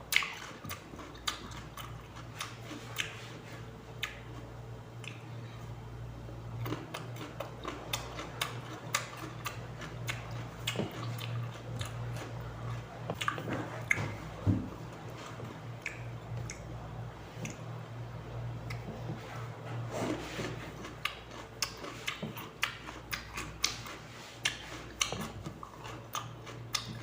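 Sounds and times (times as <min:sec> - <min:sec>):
chewing raw cucumber: 0:00.0 - 0:05.6, 0:06.5 - 0:27.0
low electrical hum: 0:00.0 - 0:27.0.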